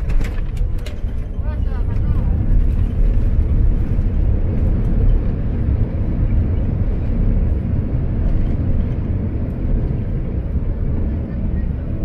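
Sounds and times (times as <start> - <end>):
airplane cabin rumble on runway: 0.0 - 12.0.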